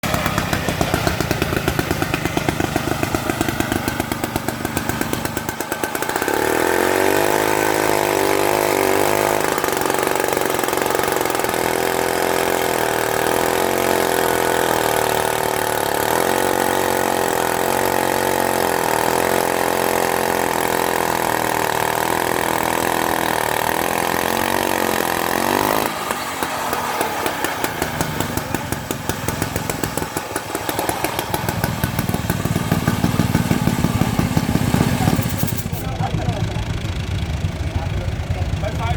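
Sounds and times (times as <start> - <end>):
chainsaw engine revving and idling: 0.0 - 38.9.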